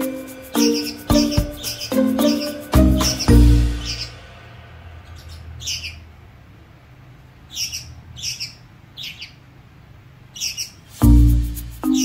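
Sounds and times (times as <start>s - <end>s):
parrot chirping: 0.0s - 6.2s, 7.3s - 9.6s, 10.2s - 12.0s.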